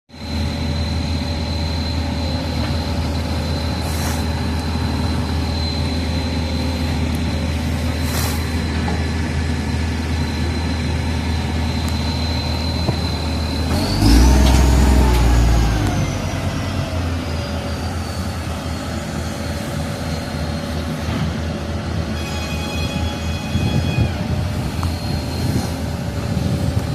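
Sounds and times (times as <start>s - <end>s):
heavy diesel engine droning: 0.1s - 26.9s
high whine: 0.1s - 26.9s.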